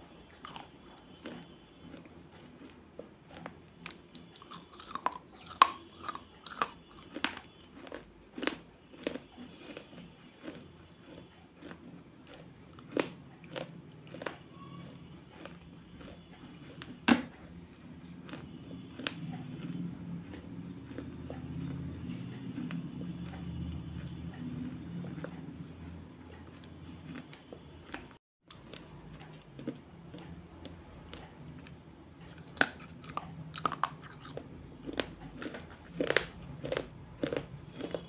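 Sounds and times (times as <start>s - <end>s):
person chewing hard crunchy food: 0.0s - 38.0s.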